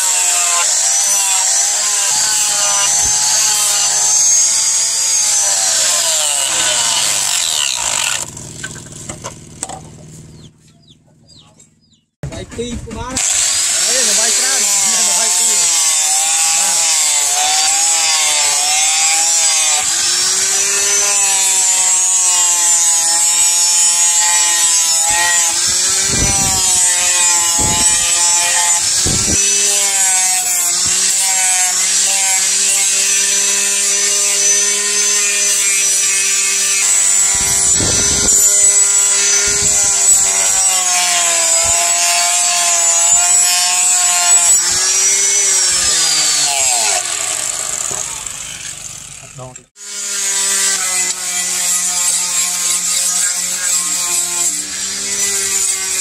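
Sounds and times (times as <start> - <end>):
angle grinder grinding steel: 0.0 - 10.5, 13.2 - 56.0.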